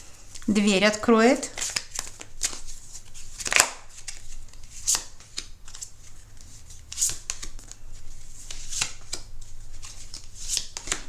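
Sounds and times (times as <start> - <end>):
cards snapping and rustling: 1.5 - 11.0.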